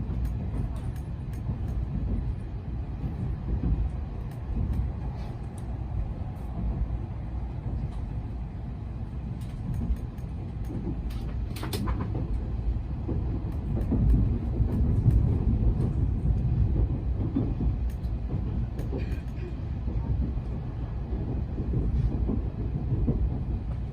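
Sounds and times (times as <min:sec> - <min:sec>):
train rumble inside cabin: 0:00.0 - 0:23.9.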